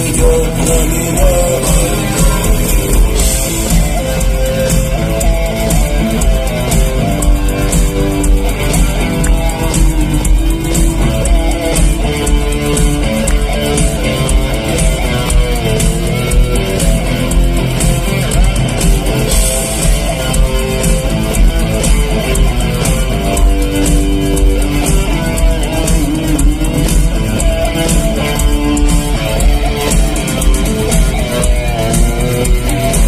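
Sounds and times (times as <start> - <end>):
bass guitar: 0.0 - 33.0
electric guitar solo: 0.0 - 33.0
steady drum beat: 0.0 - 33.0.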